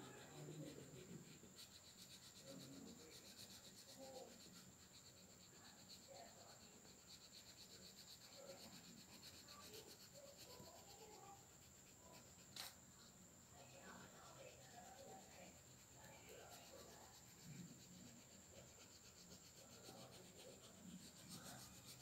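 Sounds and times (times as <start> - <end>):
pencil scratching on paper: 0.0 - 22.0.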